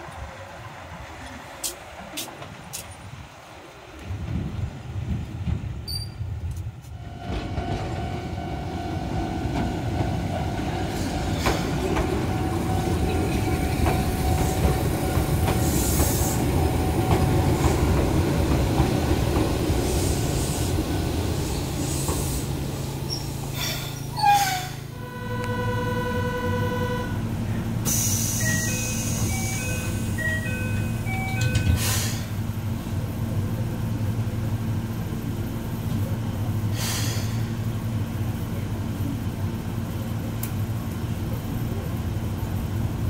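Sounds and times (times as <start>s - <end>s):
tram running on rails: 0.0s - 43.0s.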